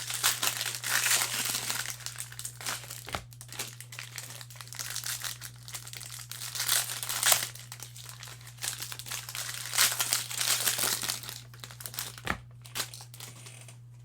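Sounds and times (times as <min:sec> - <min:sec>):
foil wrapper crinkling: 0:00.0 - 0:13.9
low electrical hum: 0:00.0 - 0:14.0.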